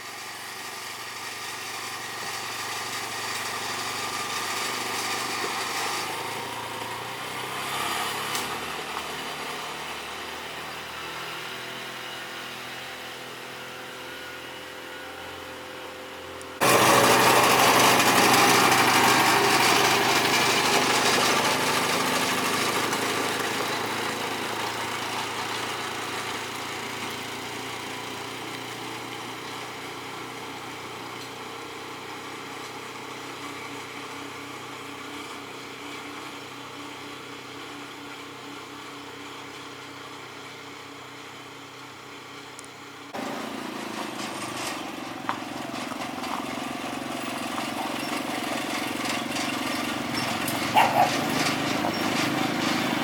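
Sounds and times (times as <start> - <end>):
engine-like hum: 0.0 - 53.0
vehicle engine running: 0.0 - 53.0.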